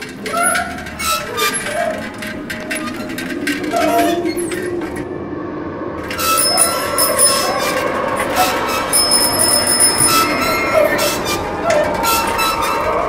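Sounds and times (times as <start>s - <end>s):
high steady wheel squeal: 0.0s - 13.0s.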